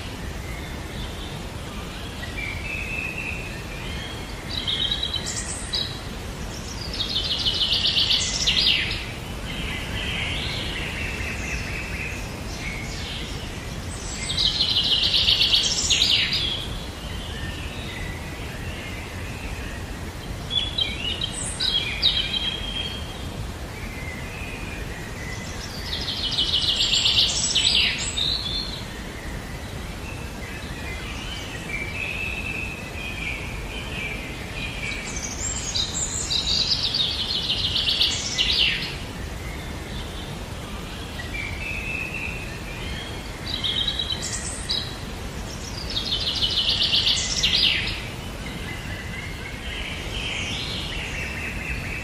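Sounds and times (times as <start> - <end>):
birds chirping: 0.0 - 52.0
low background noise: 0.0 - 52.0.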